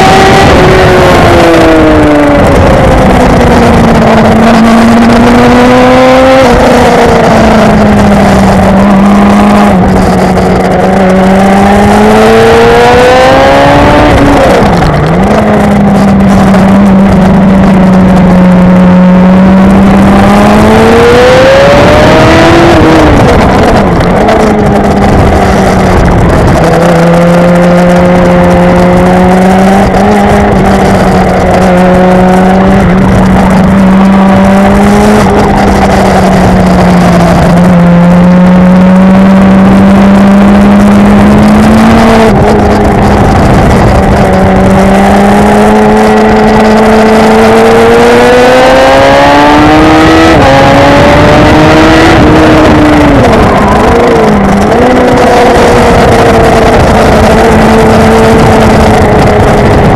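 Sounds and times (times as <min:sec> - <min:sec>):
motorcycle engine revving: 0:00.0 - 0:59.9
rushing wind: 0:00.0 - 0:59.9.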